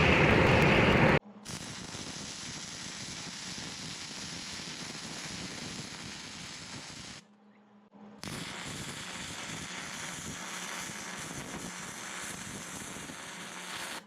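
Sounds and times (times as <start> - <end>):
welding arc crackling hiss: 0.1 - 7.2, 8.2 - 14.0.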